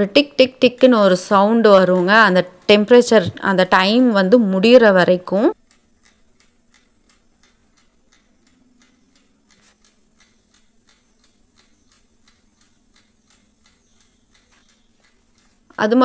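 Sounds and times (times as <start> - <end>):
oven timer ticking: 0.0 - 16.0.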